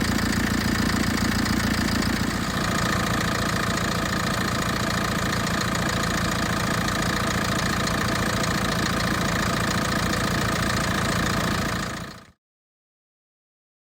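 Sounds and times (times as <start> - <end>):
diesel engine idling: 0.0 - 12.4.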